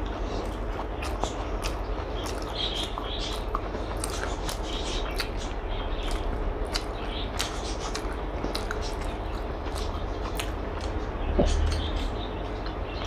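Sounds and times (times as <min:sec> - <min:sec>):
person chewing: 0:00.0 - 0:12.8
low hum: 0:00.0 - 0:13.0.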